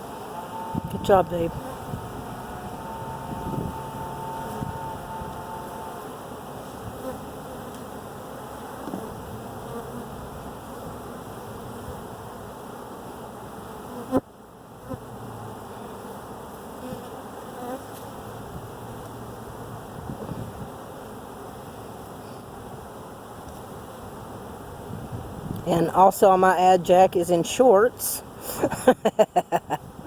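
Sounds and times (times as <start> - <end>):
bees buzzing: 0.0 - 29.4.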